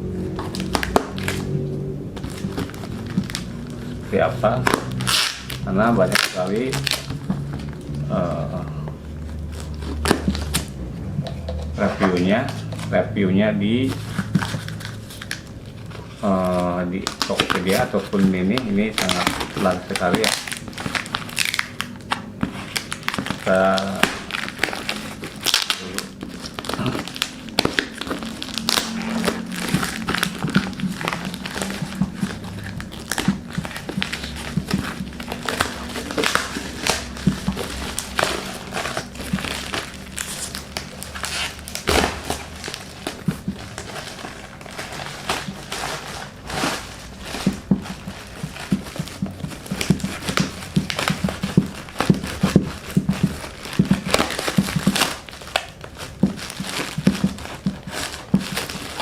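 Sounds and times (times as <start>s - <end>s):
packaging crinkling and rustling: 0.2s - 59.0s.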